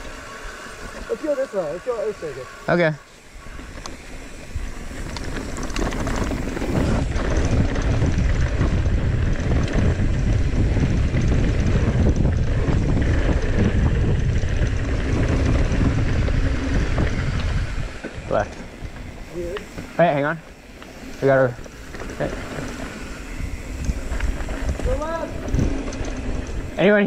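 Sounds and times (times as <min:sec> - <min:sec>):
bike clicks and rattles: 0:00.0 - 0:01.8, 0:03.4 - 0:27.0
wind buffeting microphone: 0:03.2 - 0:27.0
tyres rolling over gravel: 0:03.4 - 0:27.0.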